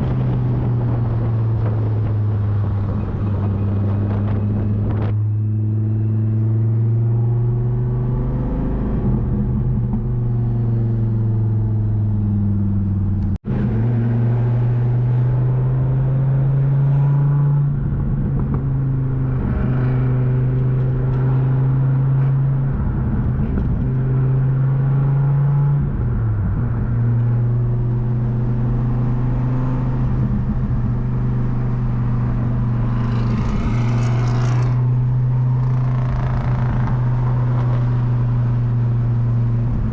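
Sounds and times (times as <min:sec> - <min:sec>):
car engine cruising drone: 0:00.0 - 0:39.9.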